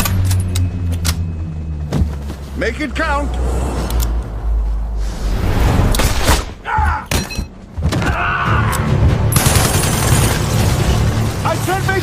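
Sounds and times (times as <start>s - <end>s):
film music score: 0.0s - 12.0s.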